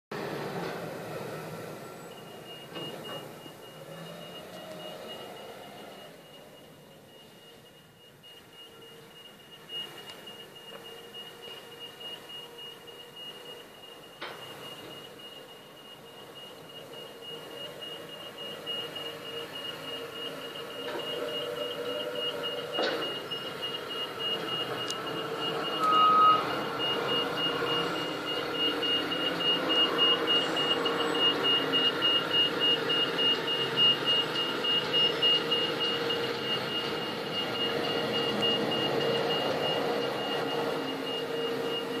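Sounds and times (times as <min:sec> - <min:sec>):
diesel engine running: 0:00.1 - 0:42.0
reversing alarm beeps: 0:00.9 - 0:42.0.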